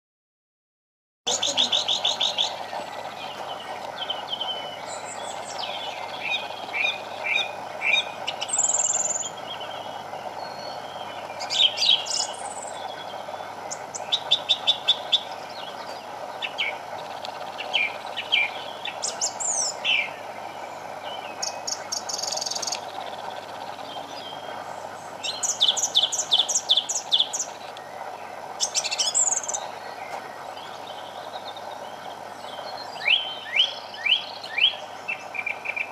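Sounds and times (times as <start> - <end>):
thrush singing: 1.3 - 35.9.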